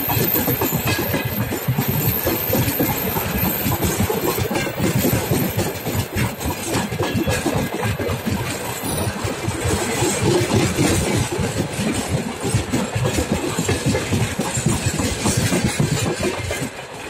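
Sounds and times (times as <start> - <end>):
train wheels rumbling on rails: 0.0 - 17.0
wheels and couplings clicking: 0.0 - 17.0.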